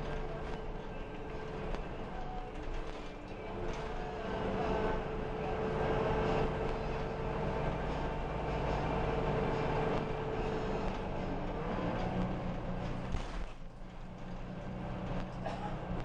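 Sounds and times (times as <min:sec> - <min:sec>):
bus engine and road drone: 0:00.0 - 0:16.0.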